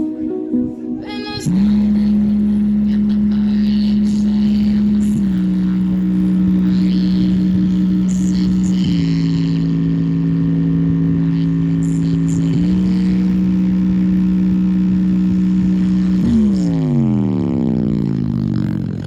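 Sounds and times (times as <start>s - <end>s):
buzzy electronic tone: 0.0s - 19.0s.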